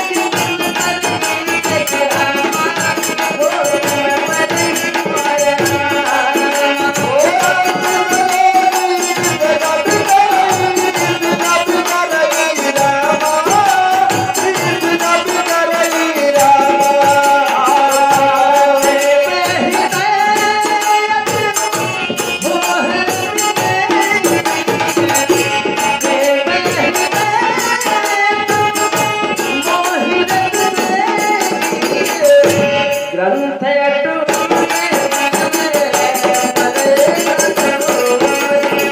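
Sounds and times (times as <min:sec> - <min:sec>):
folk percussion beat: 0:00.0 - 0:33.2, 0:34.2 - 0:38.9
person singing devotional melody: 0:00.0 - 0:38.9.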